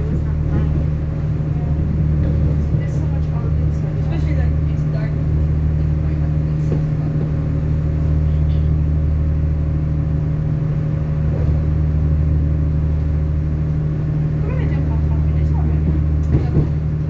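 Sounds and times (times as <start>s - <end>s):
diesel engine hum: 0.0s - 17.0s
train wheels rumbling on track: 0.0s - 17.0s.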